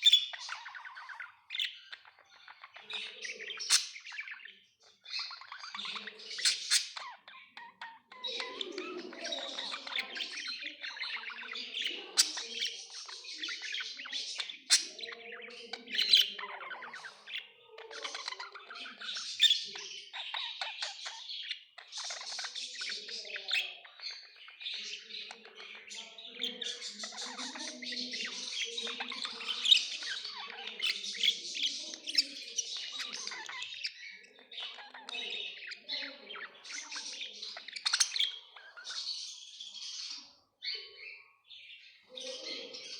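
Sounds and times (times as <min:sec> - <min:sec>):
budgerigars chattering: 0:00.0 - 0:41.3.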